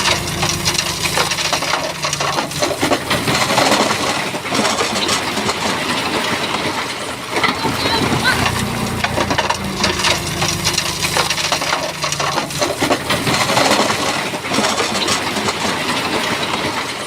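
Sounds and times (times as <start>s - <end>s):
bulldozer diesel engine under load: 0.0s - 17.0s.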